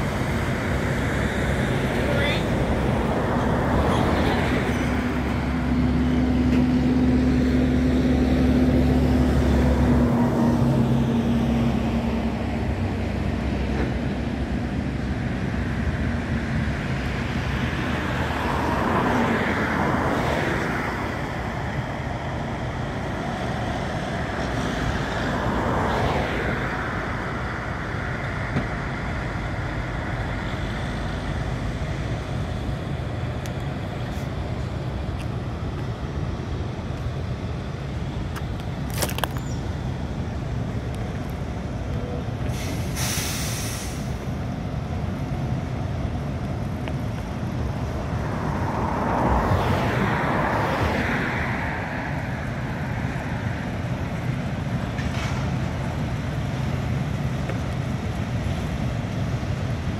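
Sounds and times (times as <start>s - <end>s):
low engine-like hum: 0.0s - 59.9s
vehicles passing: 0.0s - 59.9s.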